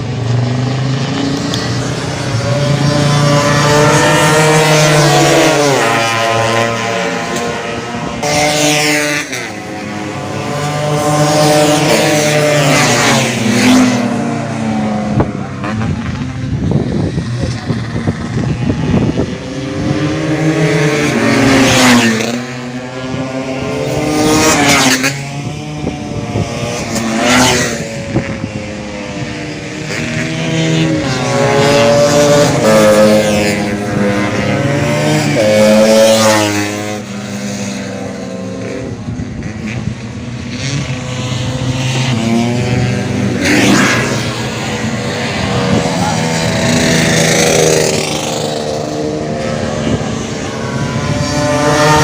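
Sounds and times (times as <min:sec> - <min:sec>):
scooter engine revving: 0:00.8 - 0:52.0.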